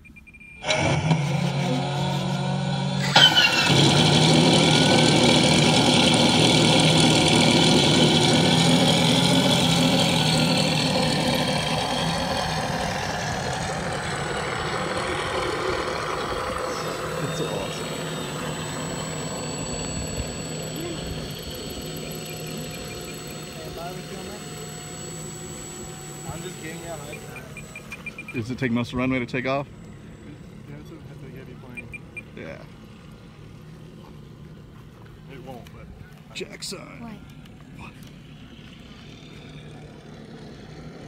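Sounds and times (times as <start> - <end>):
model plane engine running: 0.6 - 41.0.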